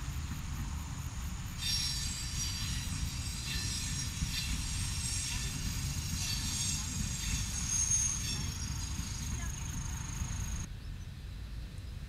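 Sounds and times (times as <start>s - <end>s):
train wheels squealing: 0.0s - 10.7s
distant train rumble: 0.0s - 11.4s.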